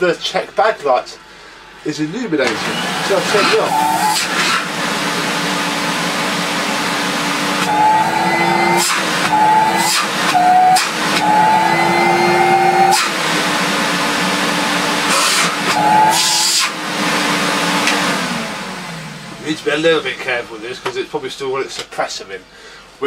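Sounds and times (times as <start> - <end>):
vacuum cleaner motor whining: 2.4 - 20.9.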